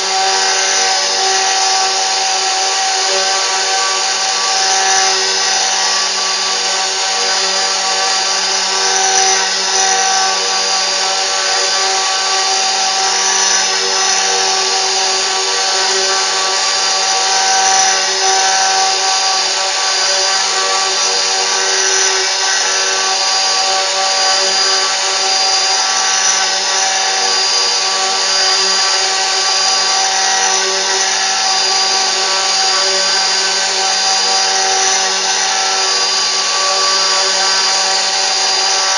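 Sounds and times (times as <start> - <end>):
machine router whining: 0.0 - 38.9.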